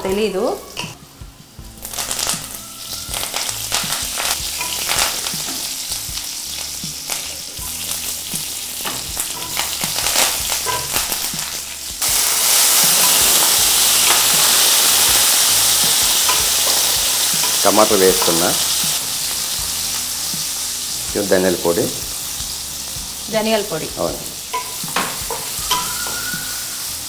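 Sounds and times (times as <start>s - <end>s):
loud steady hiss of frying: 0.0s - 27.0s
spices sizzling and popping in oil: 0.0s - 27.0s.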